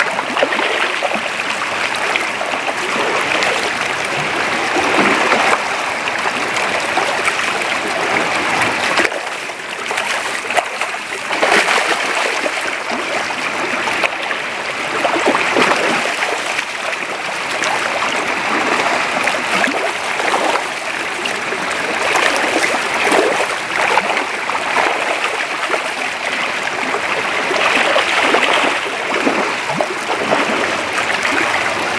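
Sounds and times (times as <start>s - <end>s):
creek water running: 0.0s - 31.9s.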